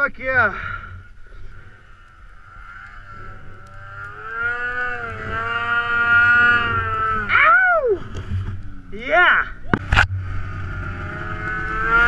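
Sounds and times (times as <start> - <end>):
snowmobile engine running: 1.3 - 12.0.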